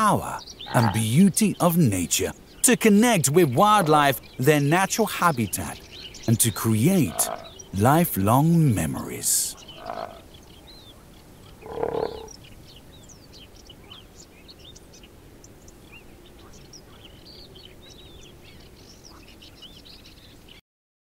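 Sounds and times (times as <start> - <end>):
birds chirping: 0.0 - 20.6
steady outdoor background: 0.0 - 20.6.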